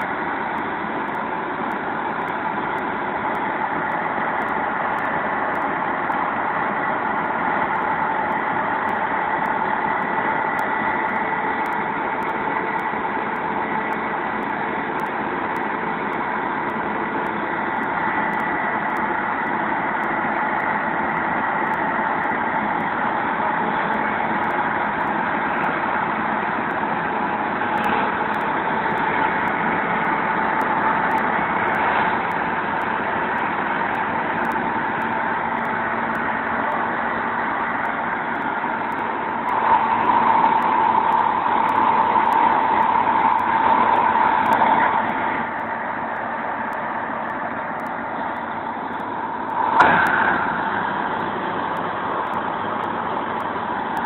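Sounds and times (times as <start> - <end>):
steady whine: 0.0 - 54.0
tractor engine running: 0.0 - 54.0.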